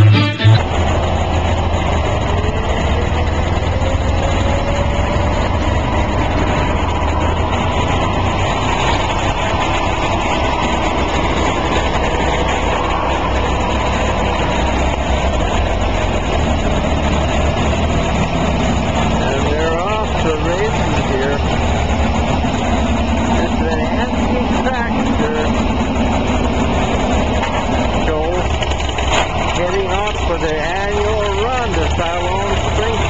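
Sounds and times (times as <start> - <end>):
tractor engines rumbling: 0.0 - 33.0.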